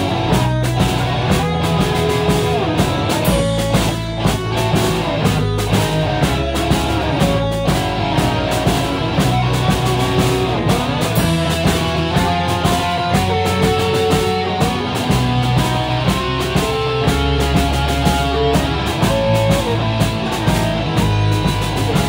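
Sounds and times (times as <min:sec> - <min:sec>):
rock band with electric guitars: 0:00.0 - 0:22.0.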